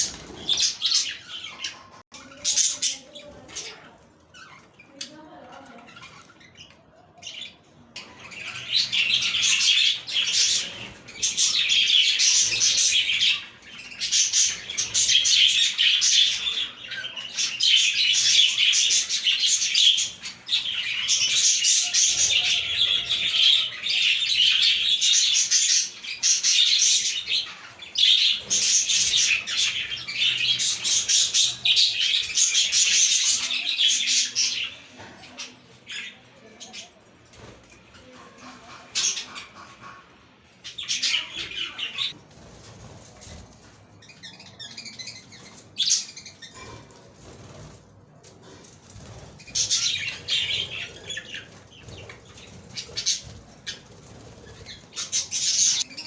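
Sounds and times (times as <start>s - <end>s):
budgerigars chirping and warbling: 0.0s - 47.8s, 48.4s - 56.0s.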